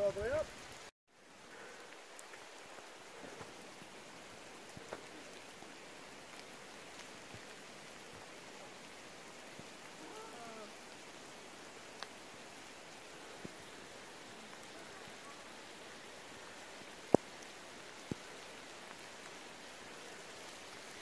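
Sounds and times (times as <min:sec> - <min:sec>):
rain falling on foliage: 0:00.0 - 0:21.0.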